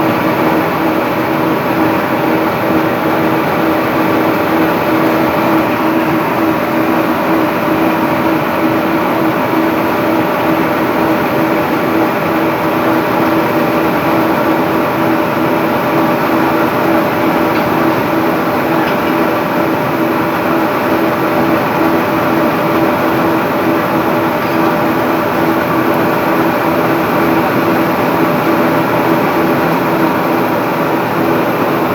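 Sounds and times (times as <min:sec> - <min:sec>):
slitting machine running: 0:00.0 - 0:31.9.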